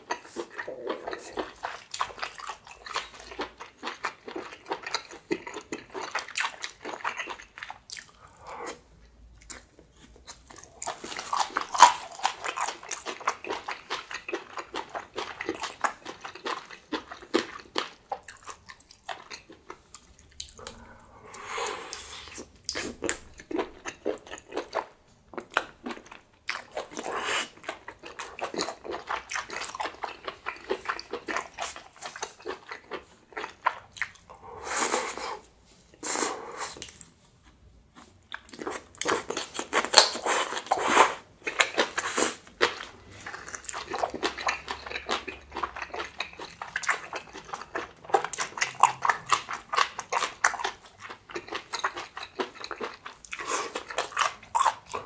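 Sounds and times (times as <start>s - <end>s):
biting and chewing food: 0.0s - 21.5s, 22.2s - 34.3s, 36.8s - 55.0s.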